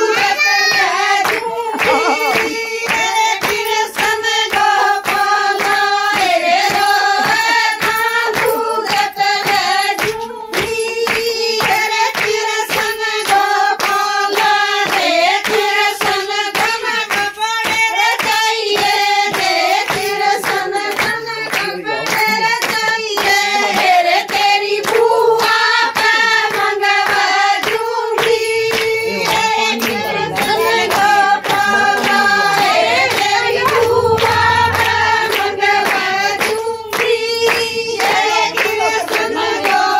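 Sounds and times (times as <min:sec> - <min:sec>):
rhythmic hand clapping: 0:00.0 - 0:39.9
women singing together: 0:00.0 - 0:39.9.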